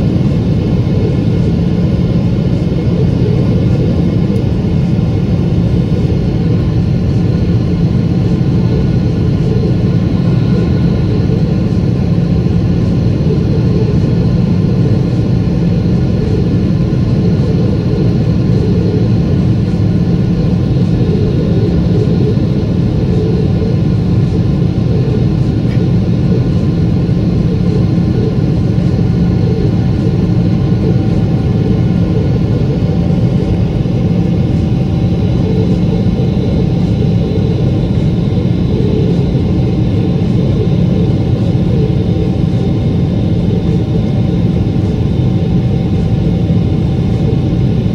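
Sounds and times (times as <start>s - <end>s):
jet engine cabin roar: 0.0s - 47.9s.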